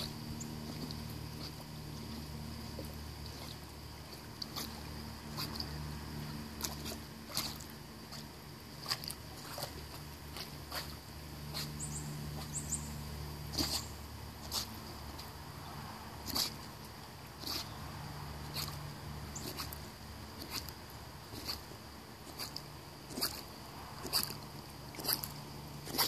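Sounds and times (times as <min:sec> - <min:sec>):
pool water splashing: 0:00.0 - 0:26.0
steady low rumble: 0:00.0 - 0:26.0.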